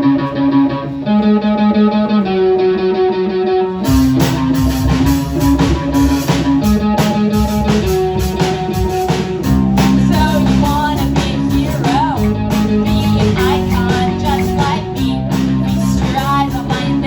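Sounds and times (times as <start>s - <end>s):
electric guitar held notes: 0.0s - 17.0s
rock band playing: 0.0s - 17.0s.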